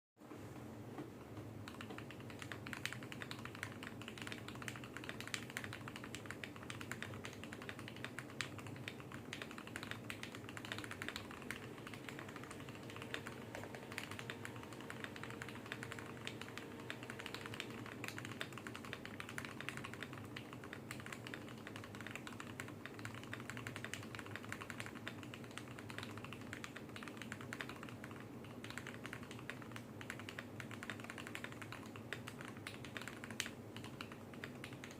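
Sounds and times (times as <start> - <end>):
faint steady hum: 0.2 - 34.9
mechanical keyboard typing: 1.6 - 34.9.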